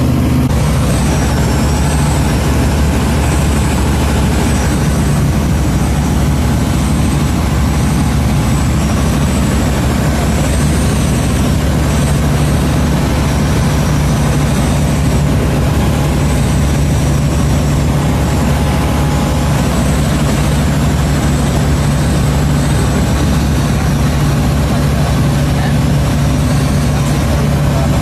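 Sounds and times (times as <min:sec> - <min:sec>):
small plane engine droning: 0:00.0 - 0:28.0
faint high whine: 0:00.2 - 0:28.0.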